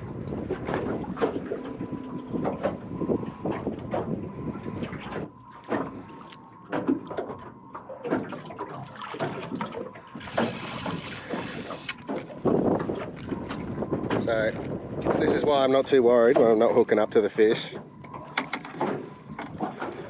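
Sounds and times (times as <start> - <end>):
waves slapping against boat hull: 0.0 - 20.0.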